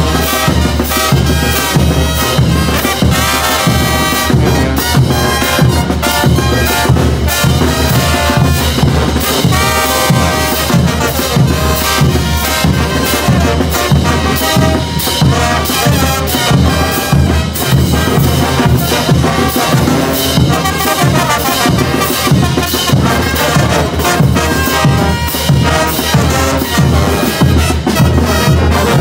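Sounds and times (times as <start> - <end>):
bass drum beat: 0.0 - 29.0
marching brass band playing: 0.0 - 29.0.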